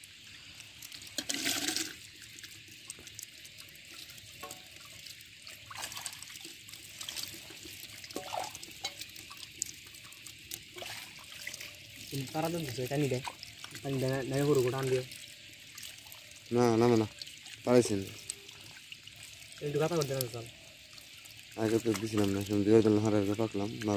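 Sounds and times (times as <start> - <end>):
water splashing in metal bowl: 0.0 - 23.9.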